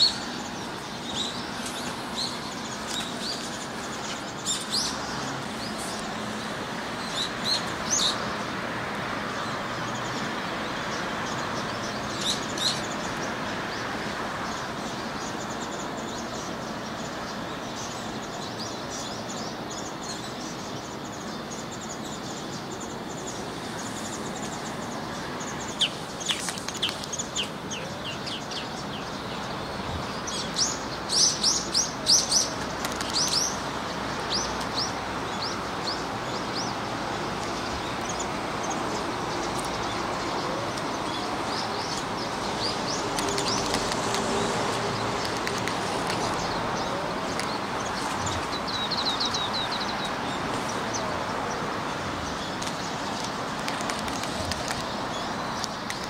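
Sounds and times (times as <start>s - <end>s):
outdoor background hiss: 0.0s - 56.0s
small birds chirping: 0.0s - 56.0s.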